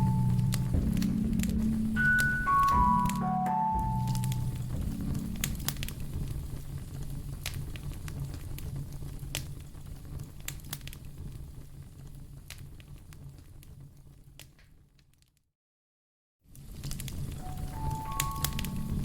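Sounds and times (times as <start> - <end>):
low rumble of flames: 0.0 - 3.0, 3.8 - 15.2, 16.5 - 19.0
wood fire crackling: 0.0 - 15.2, 16.5 - 19.0.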